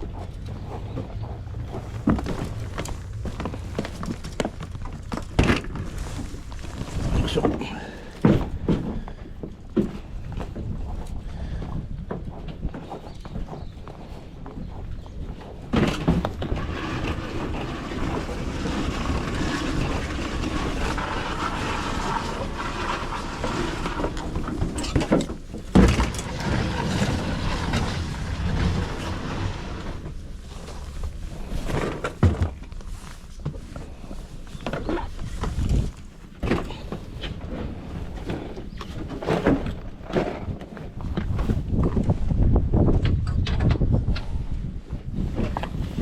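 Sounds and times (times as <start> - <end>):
boat engine rumble: 0.0 - 46.0.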